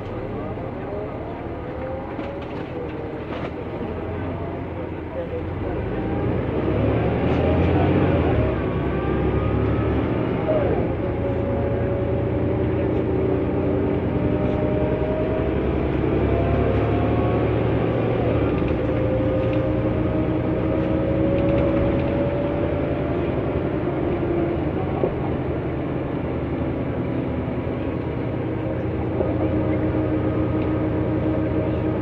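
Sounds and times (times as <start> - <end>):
bus engine running: 0.0 - 32.0.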